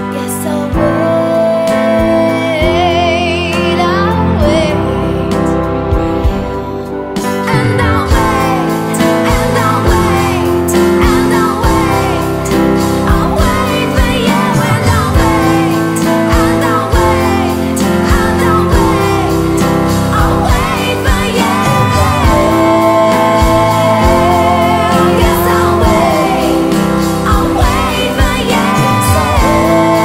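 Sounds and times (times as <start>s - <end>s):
person singing: 0.0s - 30.0s
instruments playing: 5.0s - 30.0s
steady drum beat: 5.9s - 30.0s.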